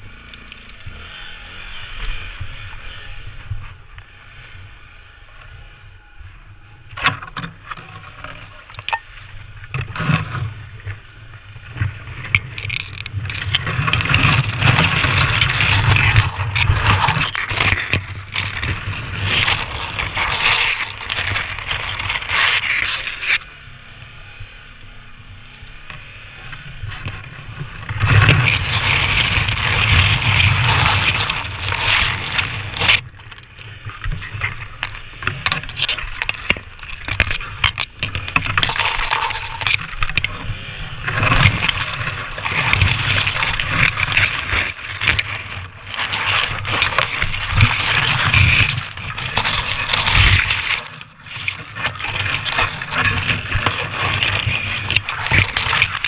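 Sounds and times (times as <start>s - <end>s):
grass scraping against camera: 0.0s - 56.0s.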